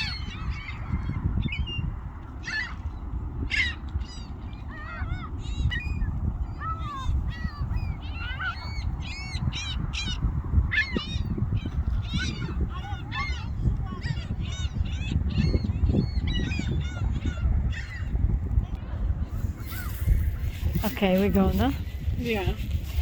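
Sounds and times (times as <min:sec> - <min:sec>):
seagulls calling: 0:00.0 - 0:23.0
steady low rumble: 0:00.0 - 0:23.0.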